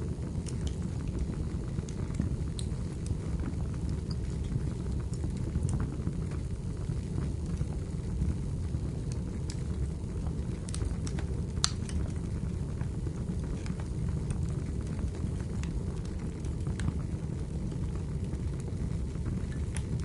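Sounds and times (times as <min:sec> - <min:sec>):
fire crackling: 0:00.0 - 0:20.0
fire low rumble: 0:00.0 - 0:20.0.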